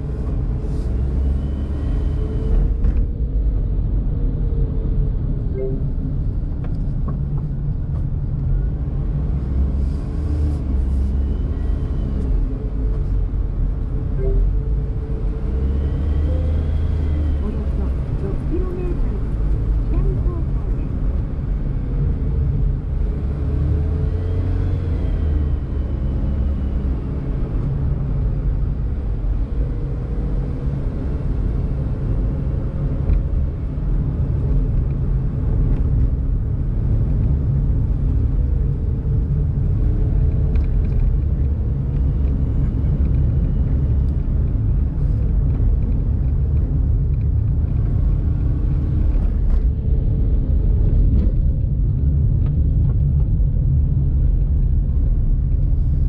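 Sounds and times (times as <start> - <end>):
car engine and tyres driving: 0.0 - 56.0.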